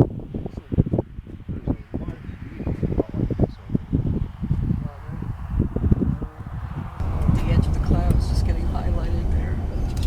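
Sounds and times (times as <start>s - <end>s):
muffled voices talking: 0.2s - 9.8s.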